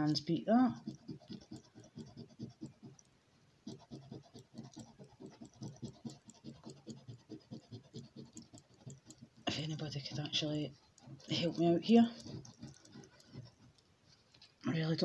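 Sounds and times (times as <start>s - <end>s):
coin scratching lottery ticket: 0.0s - 3.1s, 3.7s - 13.8s.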